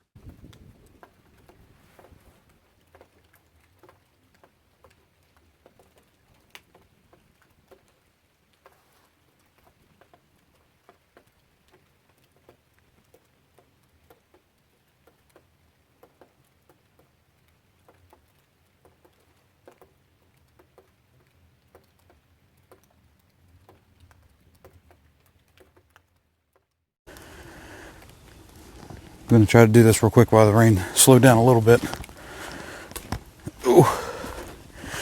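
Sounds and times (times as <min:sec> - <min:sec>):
faint rain drops ticking: 0:00.0 - 0:35.0.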